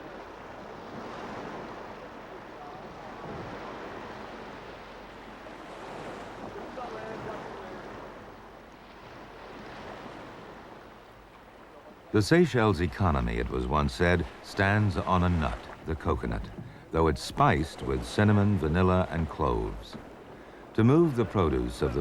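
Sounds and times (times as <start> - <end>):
sea surf: 0.0 - 22.0
wind: 0.0 - 22.0.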